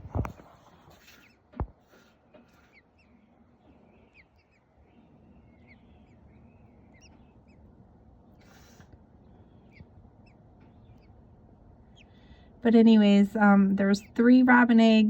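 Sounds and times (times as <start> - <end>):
nestlings peeping: 0.7 - 15.0.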